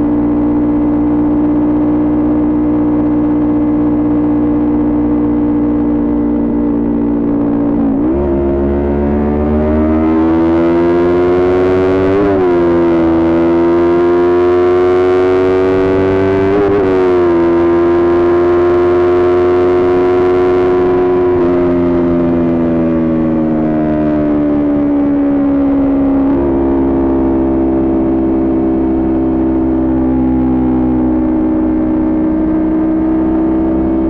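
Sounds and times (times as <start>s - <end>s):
motorcycle engine at high revs: 0.0s - 34.0s.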